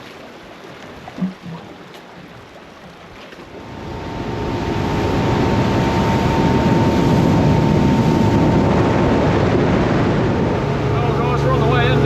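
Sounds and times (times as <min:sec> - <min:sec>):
motorboat engine: 0:00.0 - 0:12.0
water and wind rushing: 0:00.0 - 0:12.0.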